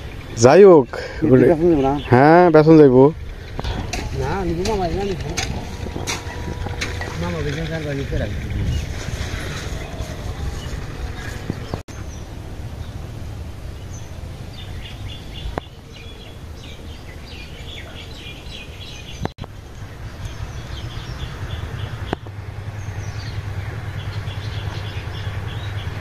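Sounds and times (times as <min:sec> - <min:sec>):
low outdoor hum: 0:00.0 - 0:26.0
small birds chirping: 0:00.0 - 0:26.0.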